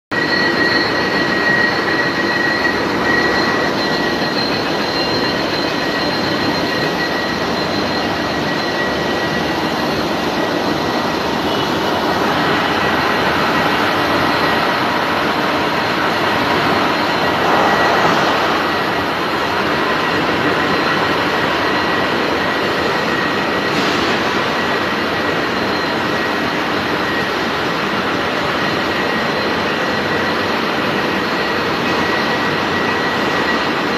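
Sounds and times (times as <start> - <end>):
thin high whine: 0.1 - 30.6.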